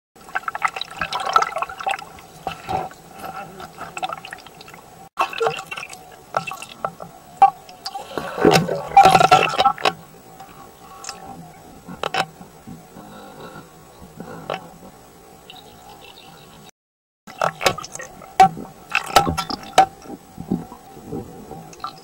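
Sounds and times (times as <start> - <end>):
underwater water bubbling: 0.2 - 16.5, 17.3 - 22.0.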